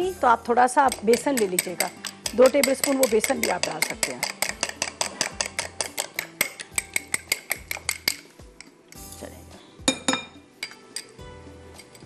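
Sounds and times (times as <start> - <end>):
utensil clinking against glass bowl: 0.9 - 8.7, 9.9 - 12.0.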